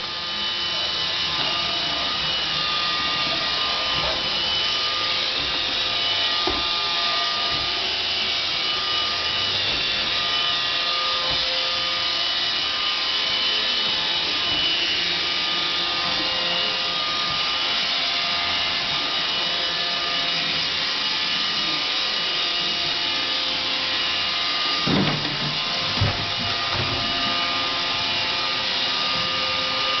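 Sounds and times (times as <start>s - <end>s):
robot vacuum whirring: 0.0s - 30.0s.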